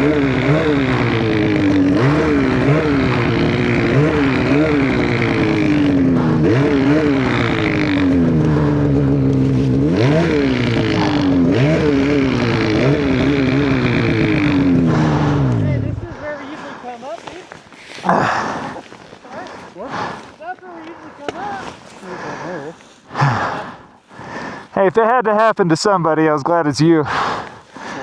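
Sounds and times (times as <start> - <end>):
snowmobile engine revving: 0.0 - 24.7.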